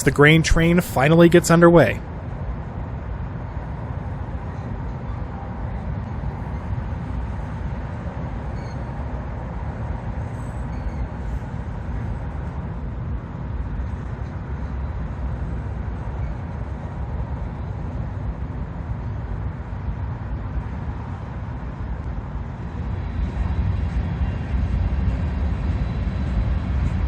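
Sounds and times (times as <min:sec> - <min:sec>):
freight train rumbling on rails: 0:00.0 - 0:27.0.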